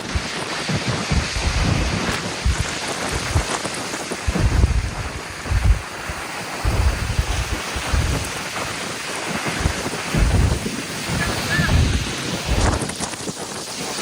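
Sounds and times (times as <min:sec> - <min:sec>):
heavy rain hissing: 0:00.0 - 0:14.0
low rumbles of wind or thunder: 0:00.0 - 0:14.0.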